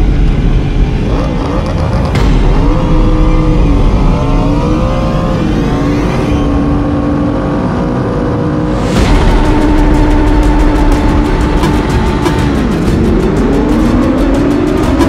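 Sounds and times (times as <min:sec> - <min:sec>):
motorcycle engine at high revs: 0:01.0 - 0:15.0.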